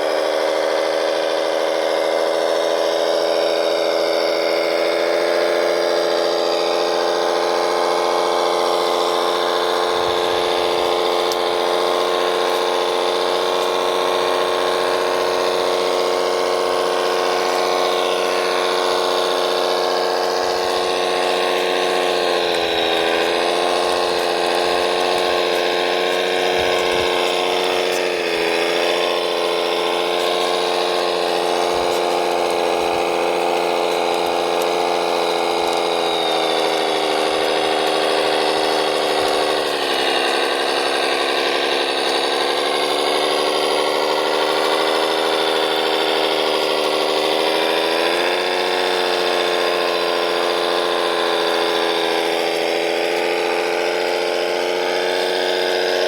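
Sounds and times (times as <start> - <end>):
toy machine mechanical whine: 0.0 - 56.0.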